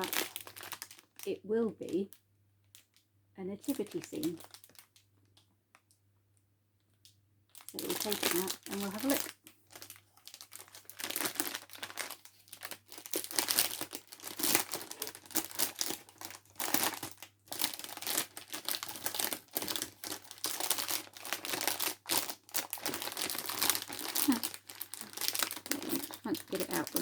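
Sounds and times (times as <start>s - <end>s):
plastic bag crinkling: 0.0s - 2.1s, 3.7s - 5.9s, 7.5s - 27.0s.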